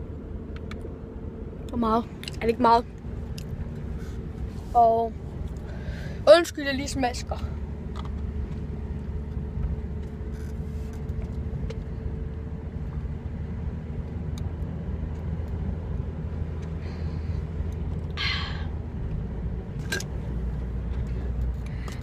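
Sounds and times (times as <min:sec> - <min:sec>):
car rumble inside cabin: 0:00.0 - 0:22.0.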